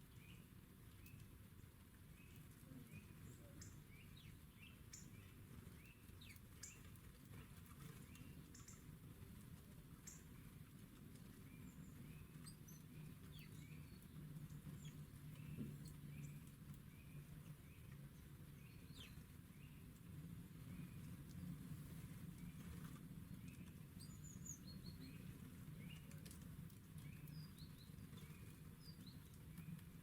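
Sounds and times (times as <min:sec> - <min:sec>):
low background rumble: 0:00.0 - 0:30.0
songbirds chirping: 0:00.0 - 0:30.0.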